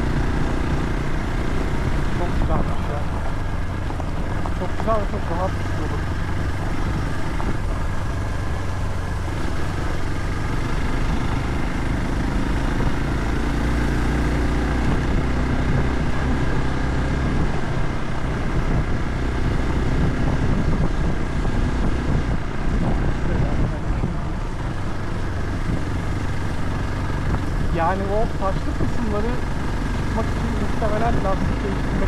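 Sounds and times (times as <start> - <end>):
tyre noise on rough track: 0.0 - 32.0
vehicle engine hum: 0.0 - 32.0.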